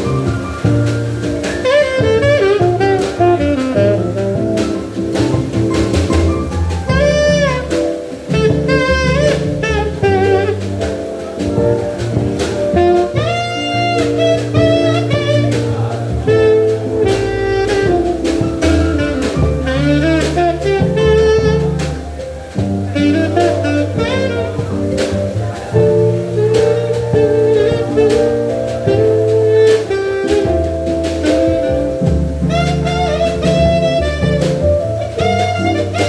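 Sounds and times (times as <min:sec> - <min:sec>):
double bass: 0:00.0 - 0:36.0
drum kit: 0:00.0 - 0:36.0
saxophone playing jazz melody: 0:00.0 - 0:36.0.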